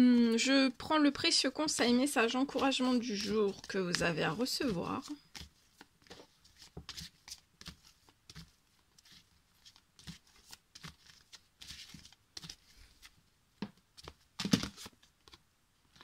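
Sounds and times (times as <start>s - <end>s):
cards being shuffled: 1.6s - 13.2s, 14.0s - 16.0s.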